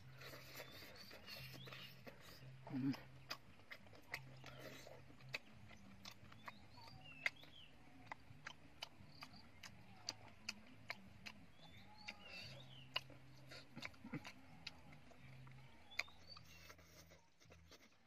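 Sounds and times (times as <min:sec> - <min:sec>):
crisp chewing: 0:00.0 - 0:18.0.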